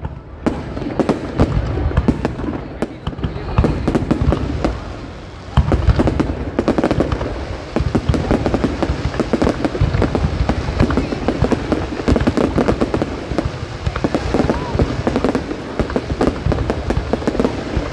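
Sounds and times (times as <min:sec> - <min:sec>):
aerial fireworks crackling: 0:00.0 - 0:17.9
low fireworks booming: 0:00.0 - 0:17.9.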